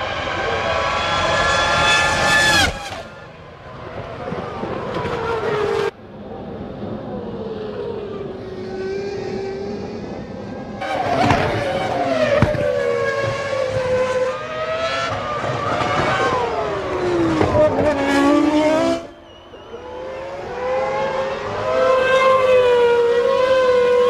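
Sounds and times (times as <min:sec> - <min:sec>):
racing car engines: 0:00.0 - 0:24.0.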